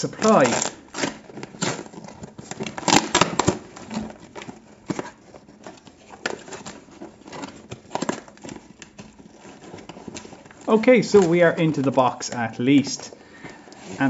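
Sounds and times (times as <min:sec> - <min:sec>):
cardboard box and tape tearing: 0:00.0 - 0:14.0.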